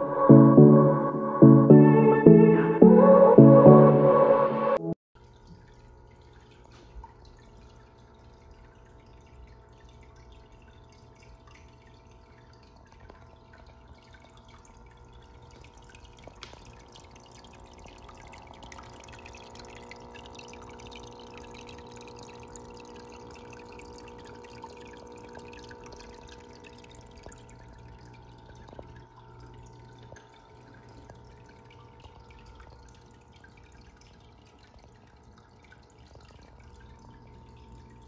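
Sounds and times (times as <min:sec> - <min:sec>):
faint steady hum: 0:00.0 - 0:38.0
water trickling and bubbling: 0:05.2 - 0:38.0.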